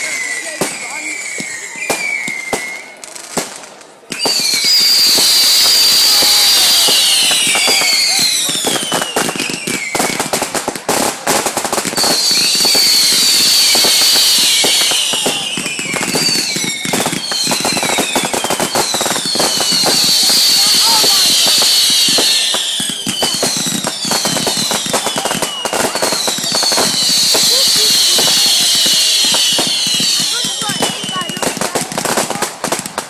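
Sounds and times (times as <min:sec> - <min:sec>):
fireworks crackling: 0:00.0 - 0:33.0
fireworks whistling: 0:00.0 - 0:33.0.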